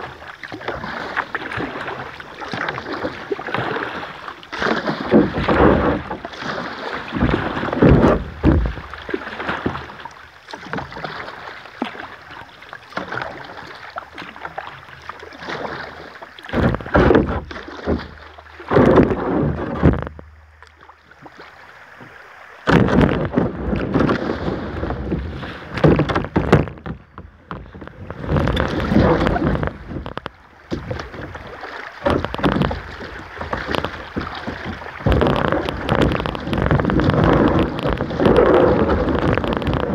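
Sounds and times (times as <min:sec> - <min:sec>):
kayak paddle strokes splashing: 0:00.0 - 0:39.9.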